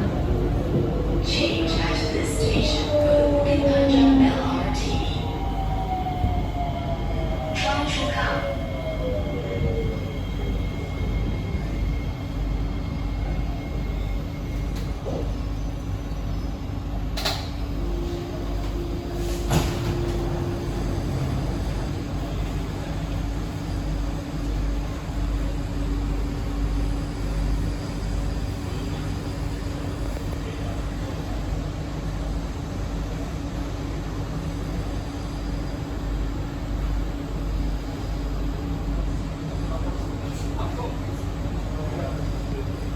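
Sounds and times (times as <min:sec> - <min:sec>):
train hum: 0:00.0 - 0:42.9.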